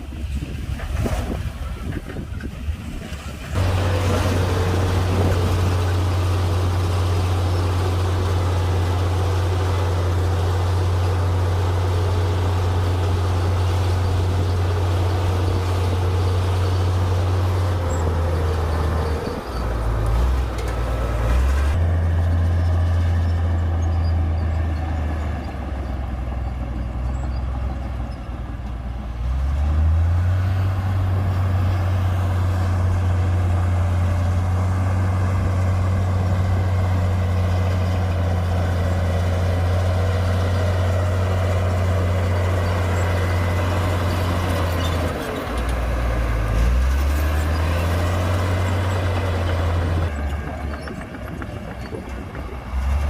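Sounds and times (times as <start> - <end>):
bulldozer diesel engine under load: 0.0 - 53.0.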